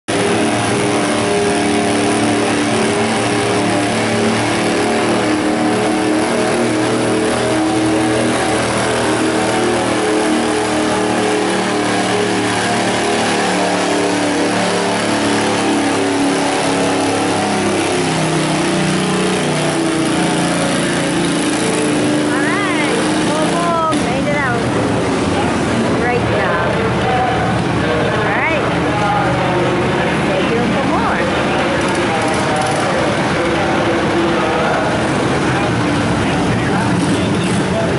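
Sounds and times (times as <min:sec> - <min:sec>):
garden tractor engine under load: 0:00.1 - 0:37.9.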